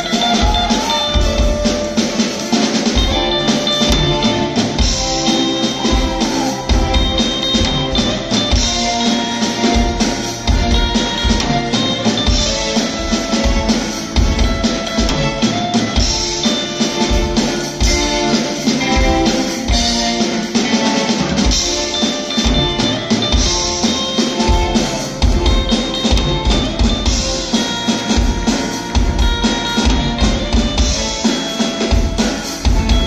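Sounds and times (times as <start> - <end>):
acoustic and electric guitars: 0.0 - 33.0
drum kit beat: 0.0 - 33.0.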